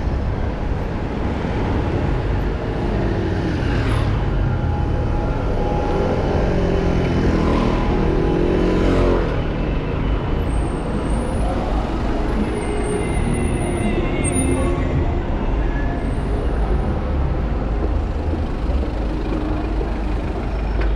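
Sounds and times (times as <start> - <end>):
city street traffic: 0.0 - 20.9.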